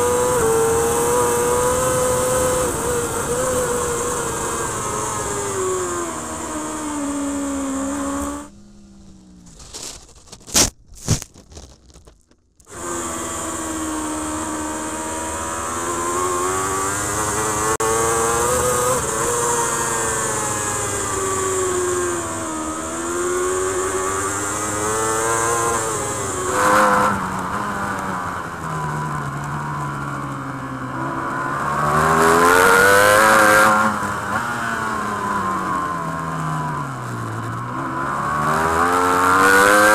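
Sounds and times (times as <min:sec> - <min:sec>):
motorcycle engine revving: 0:00.0 - 0:10.7, 0:12.7 - 0:39.9.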